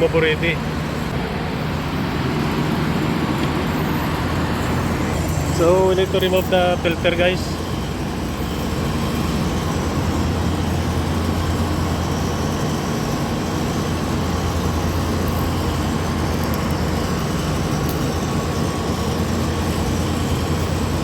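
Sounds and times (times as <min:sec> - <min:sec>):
air conditioning unit humming: 0:00.0 - 0:21.0.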